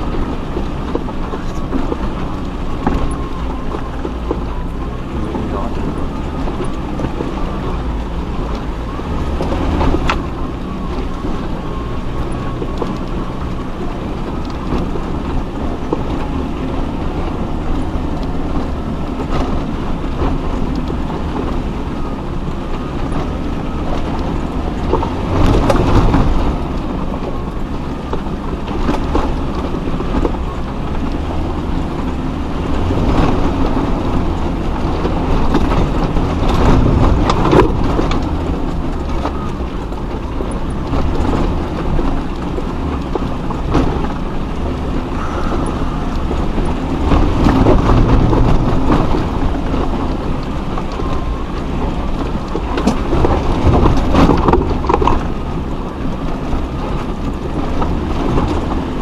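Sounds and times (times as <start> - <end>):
off-road vehicle engine: 0.0 - 59.0.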